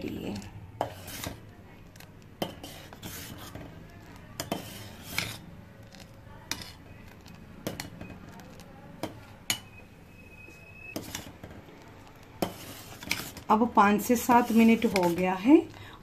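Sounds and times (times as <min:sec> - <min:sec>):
ladle scraping metal pot: 0:00.2 - 0:09.9, 0:10.9 - 0:15.8.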